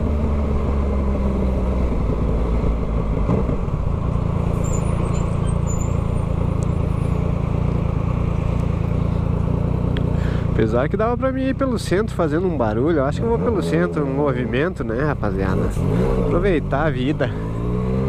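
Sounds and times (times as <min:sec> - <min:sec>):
motorcycle engine running: 0:00.0 - 0:04.5, 0:05.9 - 0:18.0.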